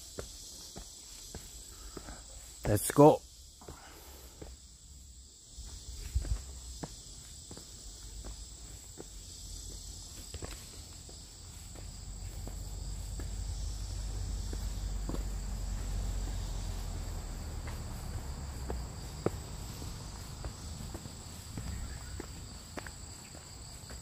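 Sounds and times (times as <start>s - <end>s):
footsteps on dirt trail: 0.0s - 2.8s, 5.5s - 24.0s
insects chorus: 0.0s - 24.0s.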